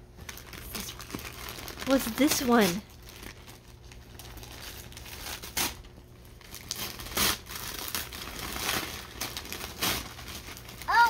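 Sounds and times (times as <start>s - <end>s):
wrapping paper ripping: 0.2s - 11.0s.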